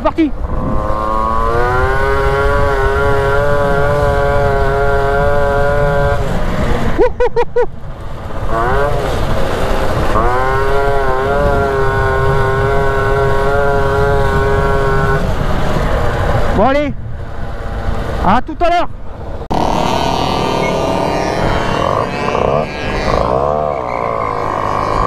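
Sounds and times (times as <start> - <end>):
moped engine revving: 0.3 - 16.6, 19.4 - 25.0.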